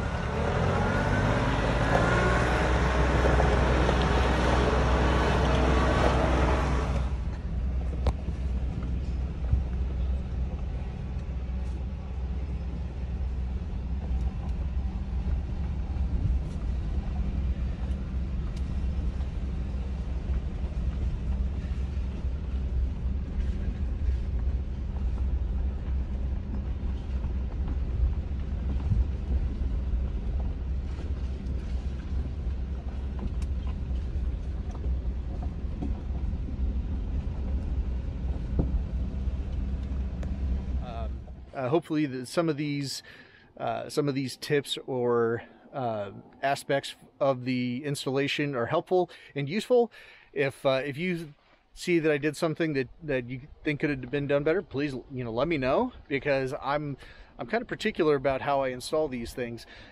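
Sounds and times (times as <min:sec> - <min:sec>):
vehicle engines rumbling: 0:00.0 - 0:59.9.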